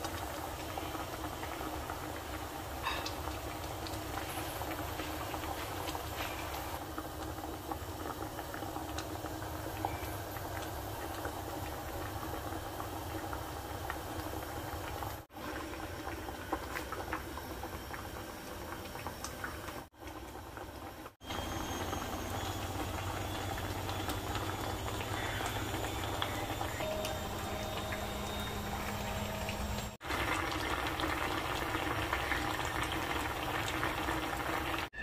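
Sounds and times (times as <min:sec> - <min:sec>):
soup boiling in a pan: 0:00.0 - 0:35.0.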